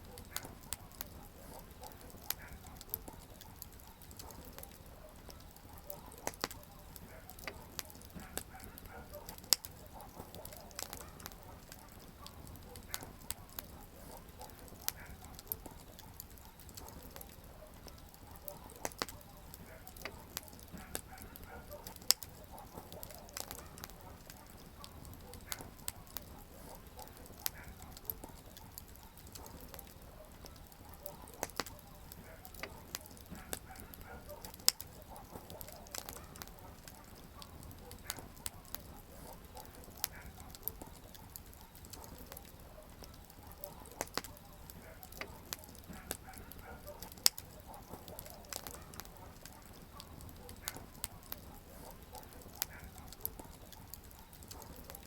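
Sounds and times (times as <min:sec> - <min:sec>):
campfire crackling: 0:00.0 - 0:55.0
low rumble of burning: 0:00.0 - 0:55.0.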